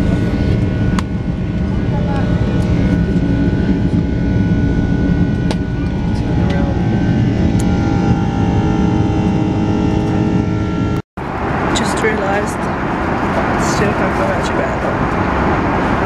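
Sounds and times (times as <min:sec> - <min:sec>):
jet engine rumble: 0:00.0 - 0:16.0
rushing air: 0:00.0 - 0:16.0
steady whining tones: 0:00.0 - 0:16.0.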